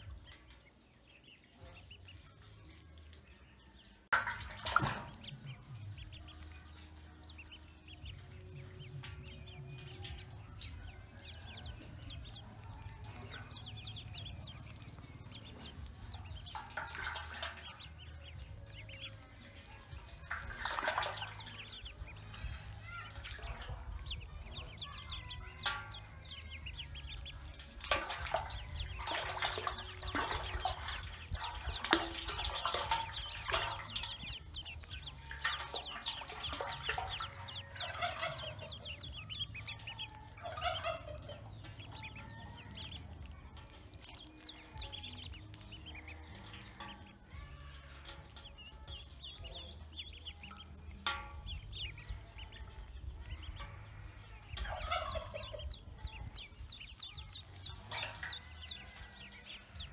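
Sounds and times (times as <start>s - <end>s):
ducklings peeping: 0.0s - 59.9s.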